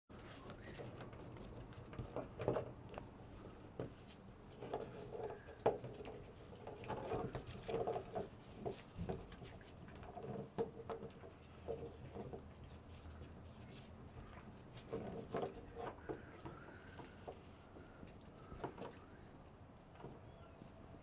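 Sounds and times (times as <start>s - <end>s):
paws clicking on wooden boards: 0.1s - 21.0s
puppies scuffling and wrestling: 0.1s - 21.0s.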